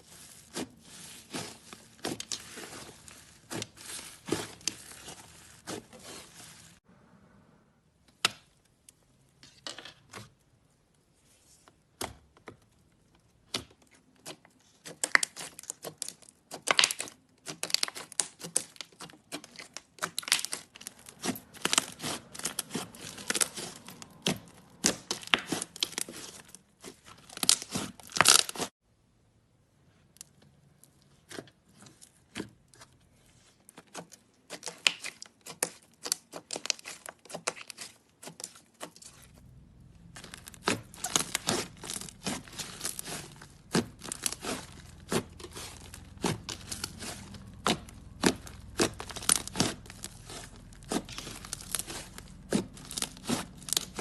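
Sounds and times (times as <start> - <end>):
slime squishing and crackling: 0.0 - 6.8, 13.3 - 28.7, 30.2 - 54.0.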